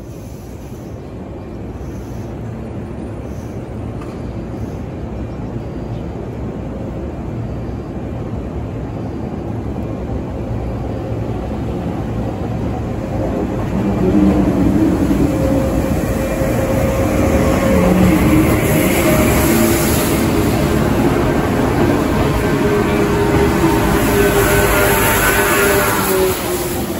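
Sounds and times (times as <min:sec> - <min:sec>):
electric train passing: 0:00.0 - 0:26.9.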